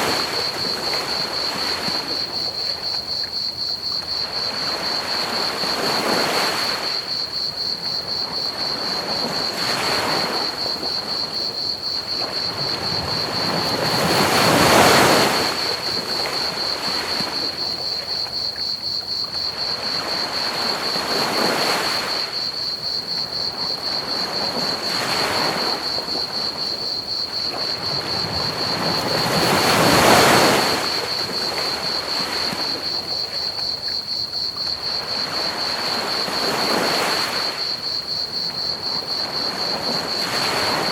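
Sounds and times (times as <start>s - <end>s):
crickets trilling: 0.0s - 40.9s
ocean waves washing onto beach: 0.0s - 40.9s.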